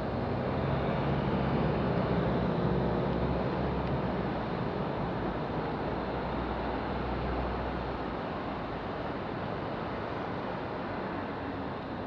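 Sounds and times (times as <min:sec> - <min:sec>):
tyres on wet road: 0:00.0 - 0:12.0.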